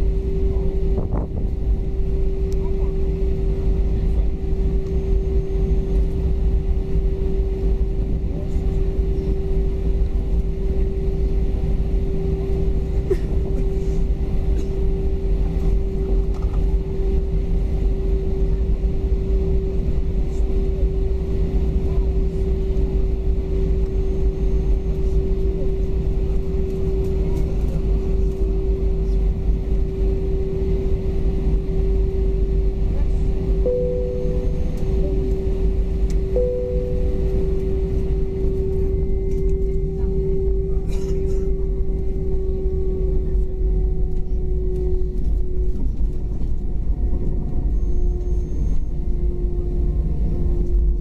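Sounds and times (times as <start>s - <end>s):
airplane engines droning at idle: 0.0s - 51.0s
low rumble: 0.0s - 51.0s.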